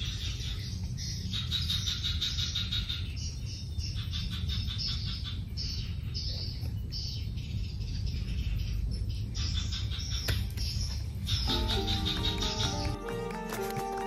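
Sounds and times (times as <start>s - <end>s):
chirring animal calls: 0.0s - 14.0s.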